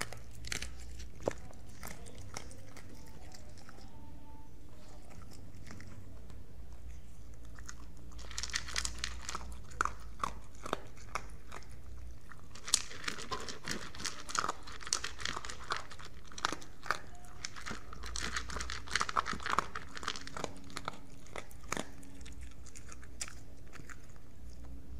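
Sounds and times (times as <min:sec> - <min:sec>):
dog crunching food: 0:00.0 - 0:04.0, 0:04.8 - 0:24.9.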